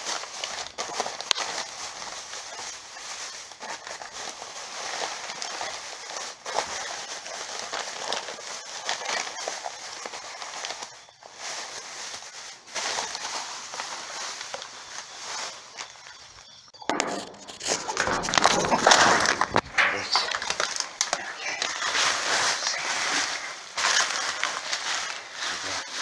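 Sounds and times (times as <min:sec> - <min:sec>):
plastic bags rustling and crinkling: 0:00.0 - 0:26.0.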